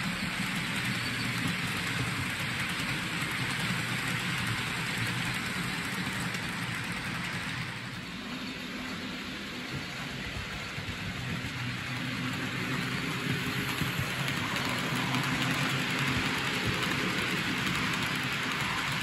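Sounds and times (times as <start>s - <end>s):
faint motor hum: 0.0s - 19.0s
model train wheels rattling on rail: 0.0s - 19.0s.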